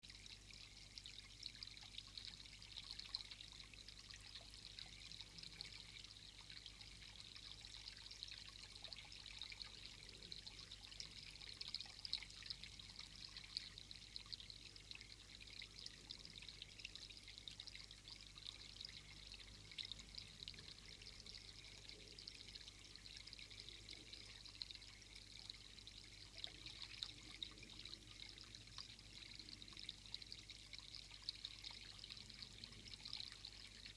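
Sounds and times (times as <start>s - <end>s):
faint high hiss with crackle: 0.0s - 33.9s.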